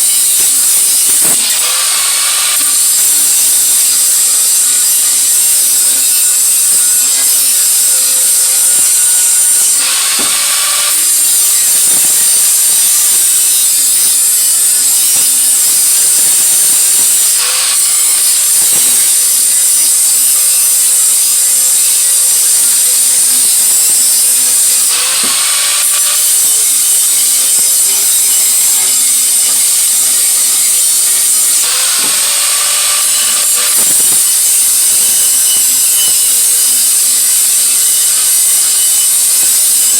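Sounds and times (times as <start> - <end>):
power tool grinding metal: 0.0 - 39.9.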